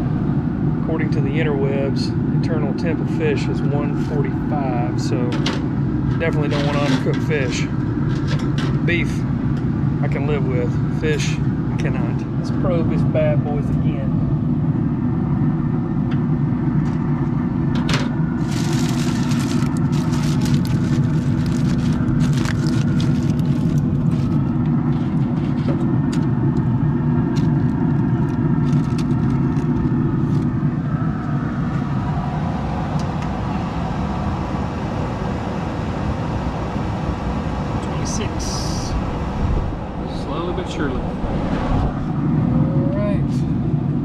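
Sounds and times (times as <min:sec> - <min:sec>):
grill fan humming: 0:00.0 - 0:44.0.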